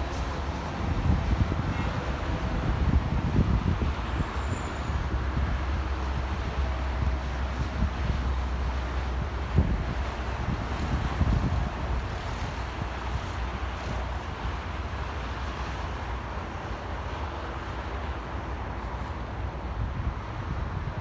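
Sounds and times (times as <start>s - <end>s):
road traffic noise: 0.0s - 21.0s
wind buffeting microphone: 0.0s - 21.0s.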